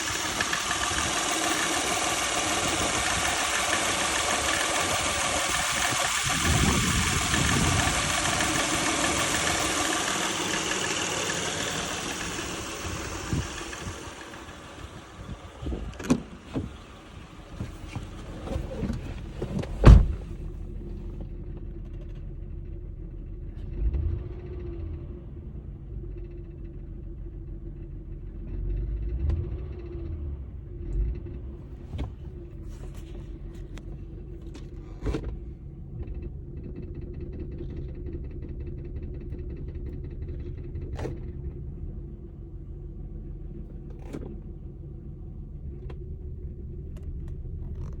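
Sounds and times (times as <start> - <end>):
car engine rumbling: 0.0 - 48.0
faint engine rattling: 0.0 - 48.0.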